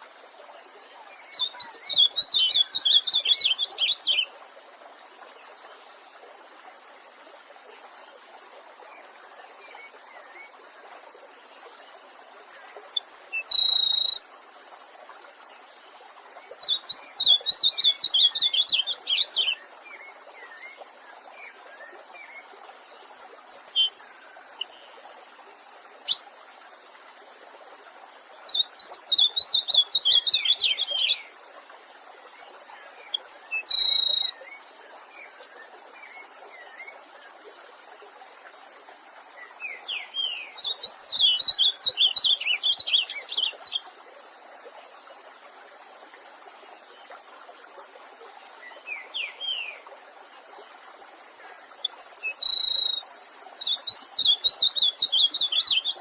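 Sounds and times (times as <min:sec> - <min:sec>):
songbird warbling song: 0:00.0 - 0:06.2, 0:07.0 - 0:56.0
stream hiss: 0:00.0 - 0:56.0.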